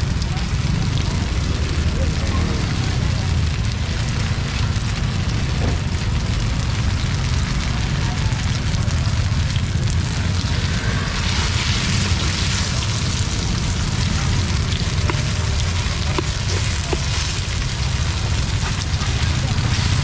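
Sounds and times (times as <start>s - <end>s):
oil sizzling on a griddle: 0.0s - 20.0s.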